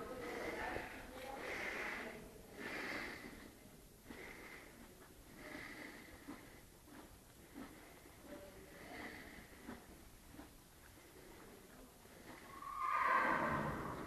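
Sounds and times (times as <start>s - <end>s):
horse snorting: 0.0s - 11.5s, 12.1s - 14.0s.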